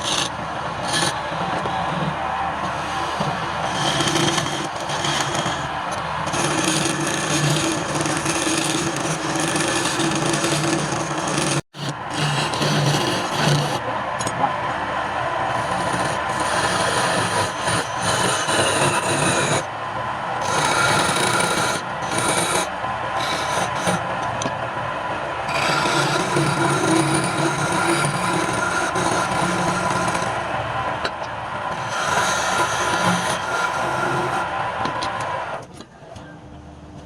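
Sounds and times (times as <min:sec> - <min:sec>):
tool rasping on spinning wood: 0:00.0 - 0:13.8, 0:15.5 - 0:19.7, 0:20.4 - 0:24.1, 0:25.5 - 0:30.9, 0:31.6 - 0:34.6
lathe humming: 0:00.0 - 0:14.3, 0:14.9 - 0:35.5.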